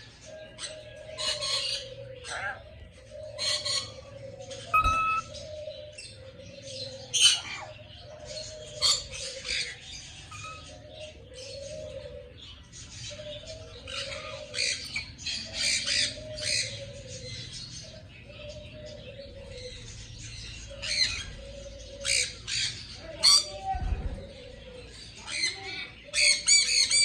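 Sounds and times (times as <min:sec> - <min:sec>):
aviary birds squawking and chirping: 0:00.0 - 0:27.0.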